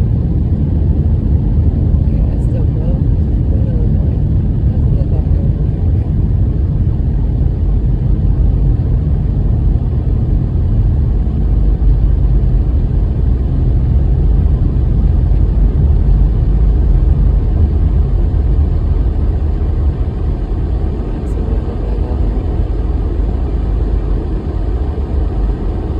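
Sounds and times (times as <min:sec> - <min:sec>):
car driving interior rumble: 0:00.9 - 0:25.9.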